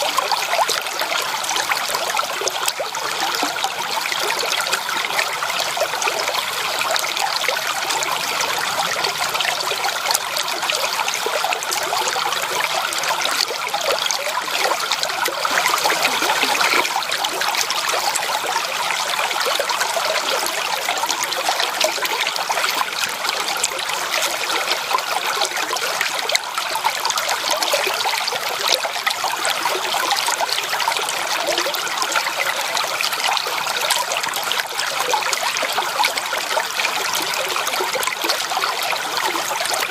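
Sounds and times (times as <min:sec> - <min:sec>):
stream water splashing and trickling: 0:00.0 - 0:39.9.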